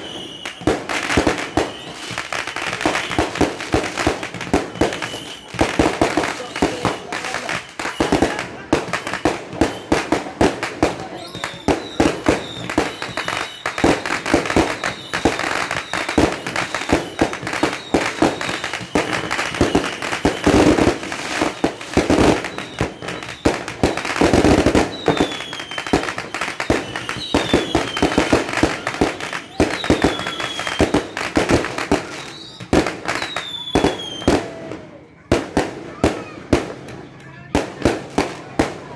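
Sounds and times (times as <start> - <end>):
firecrackers banging and crackling: 0.0 - 38.9
whistling fireworks: 0.0 - 38.9.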